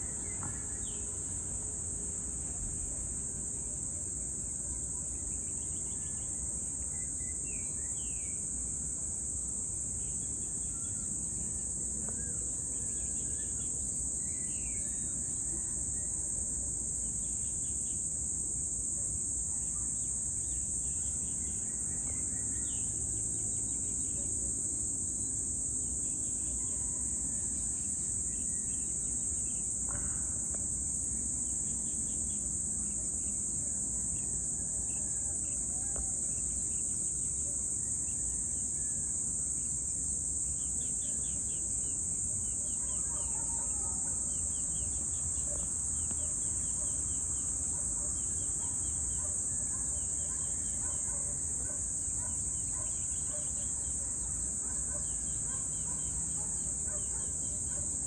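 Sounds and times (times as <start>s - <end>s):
insect chorus: 0.0s - 58.0s
pulsing insect trills: 0.0s - 58.0s.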